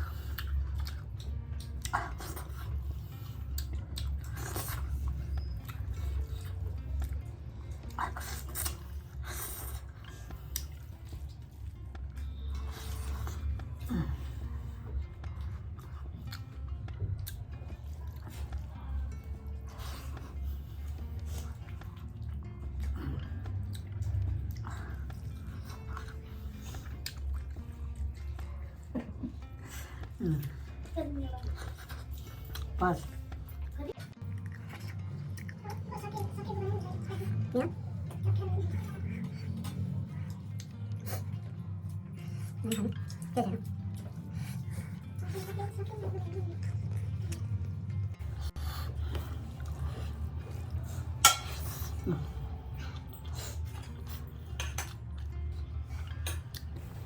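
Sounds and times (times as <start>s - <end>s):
person chewing food: 0.0s - 35.9s, 36.9s - 45.8s, 46.6s - 57.0s.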